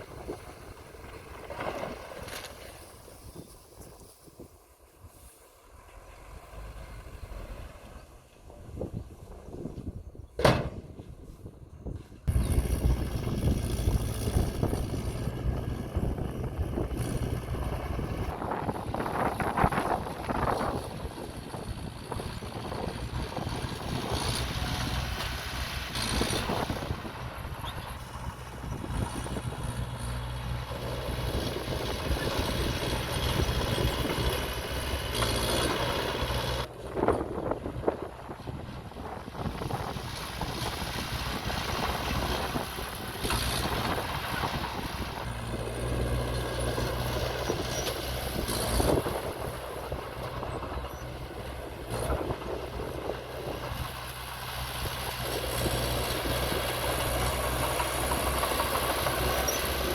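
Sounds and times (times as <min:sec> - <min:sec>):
diesel engine droning: 0:04.6 - 0:10.2, 0:11.2 - 0:59.9.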